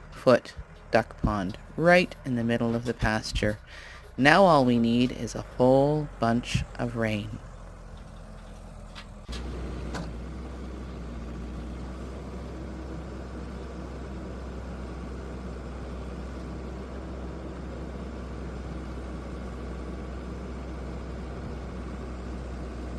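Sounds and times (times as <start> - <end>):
diesel engine rumbling: 0.0 - 22.9.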